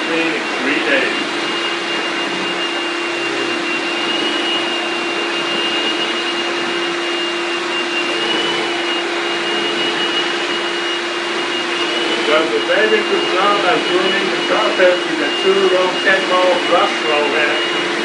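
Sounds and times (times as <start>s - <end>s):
vacuum cleaner motor drone: 0.0s - 18.0s.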